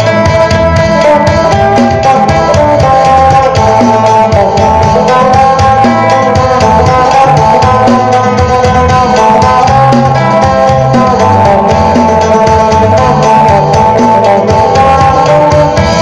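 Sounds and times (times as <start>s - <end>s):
bass line: 0.0s - 16.0s
drum beat: 0.0s - 16.0s
lute picking a folk melody: 0.0s - 16.0s.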